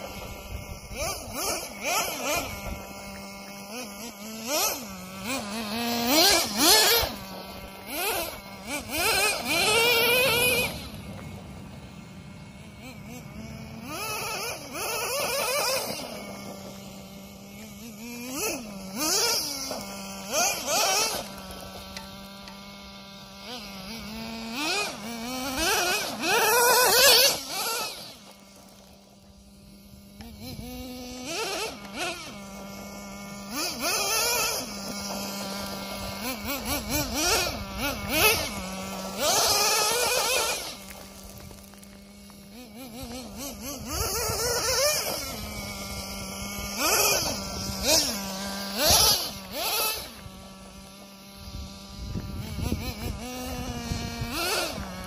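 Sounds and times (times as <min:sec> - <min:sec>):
rc car engine revving: 0:00.0 - 0:55.0.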